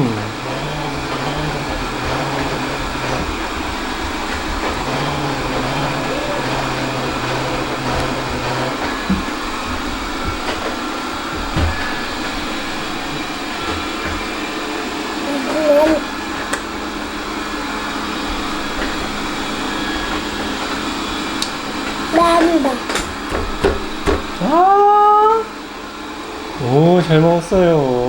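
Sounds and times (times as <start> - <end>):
low hum: 0.0 - 25.2
motorized appliance rushing: 0.0 - 28.0.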